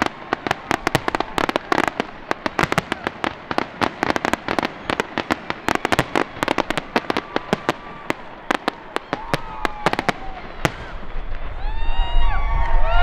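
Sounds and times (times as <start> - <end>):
fireworks crackling and popping: 0.0 - 12.1.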